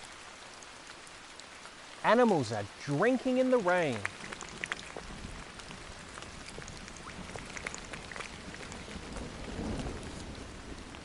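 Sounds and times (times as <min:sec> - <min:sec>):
rain falling: 0:00.0 - 0:11.0
raindrops ticking: 0:00.0 - 0:11.0.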